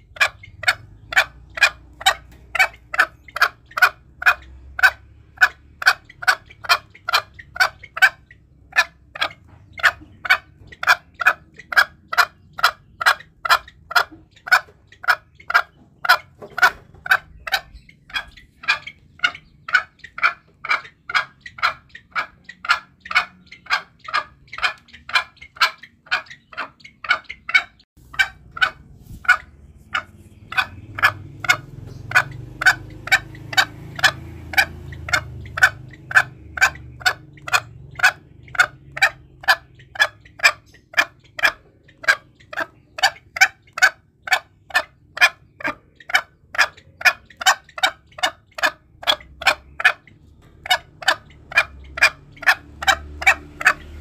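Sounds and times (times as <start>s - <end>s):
junglefowl clucking: 0.0s - 54.0s.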